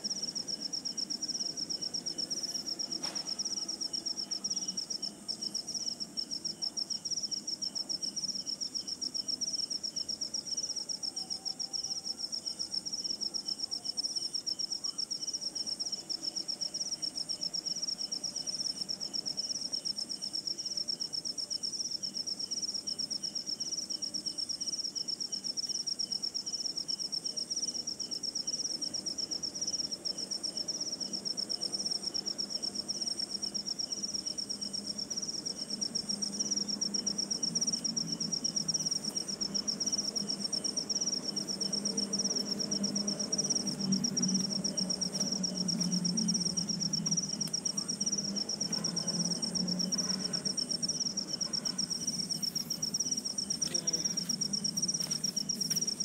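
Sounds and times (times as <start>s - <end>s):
cricket chirping: 0.0s - 56.0s
low background noise: 0.0s - 56.0s.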